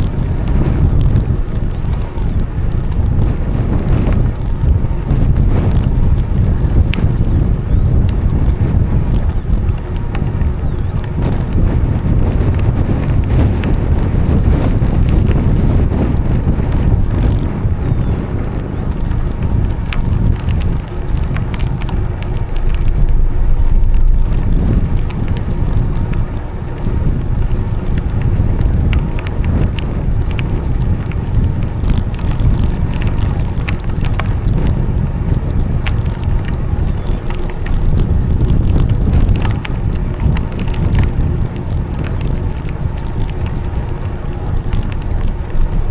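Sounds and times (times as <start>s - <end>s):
bicycle tyre noise: 0.0s - 45.9s
bike clicks and rattles: 0.0s - 45.9s
wind buffeting microphone: 0.0s - 45.9s.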